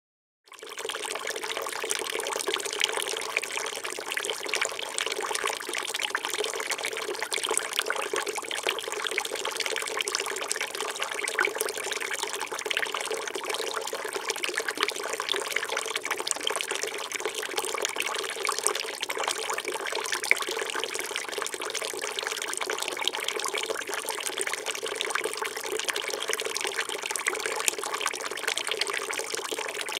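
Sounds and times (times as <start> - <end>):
fountain water trickling into basin: 0.5 - 29.9.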